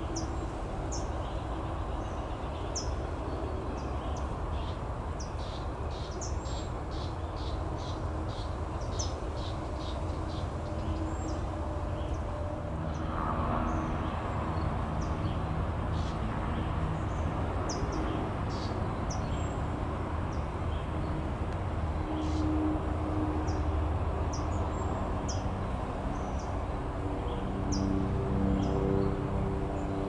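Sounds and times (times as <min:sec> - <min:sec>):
distant traffic rumble: 0:00.0 - 0:30.0.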